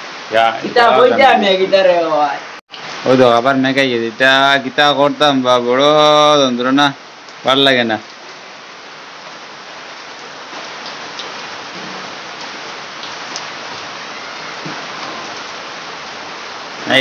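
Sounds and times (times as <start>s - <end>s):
steady rain on puddles: 0.0s - 17.0s.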